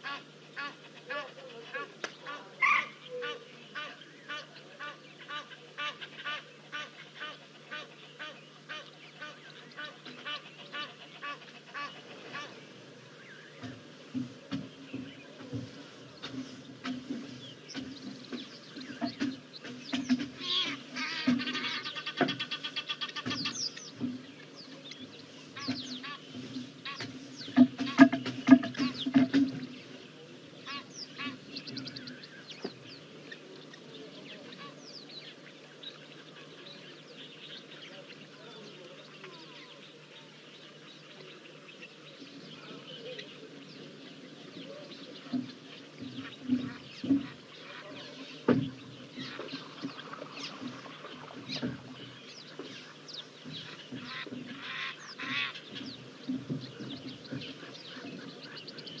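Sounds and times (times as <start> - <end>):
birds chirping and whistling: 2.0 - 59.0.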